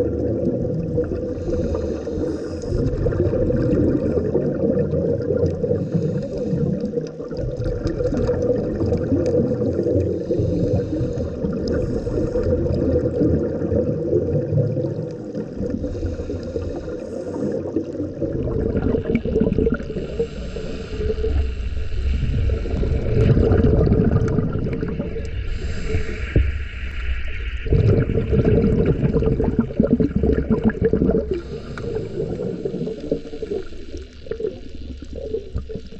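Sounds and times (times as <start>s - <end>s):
muffled underwater water rush: 0.0s - 35.9s.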